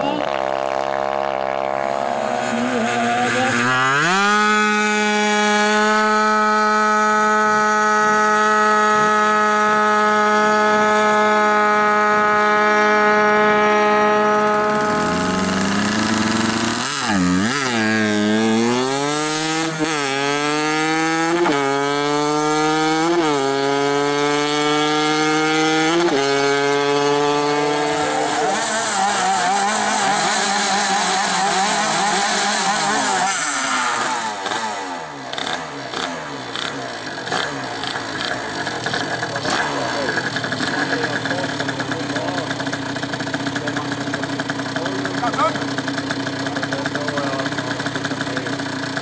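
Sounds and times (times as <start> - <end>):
moped engine accelerating: 0.0 - 49.0
moped engines idling and revving: 0.0 - 49.0.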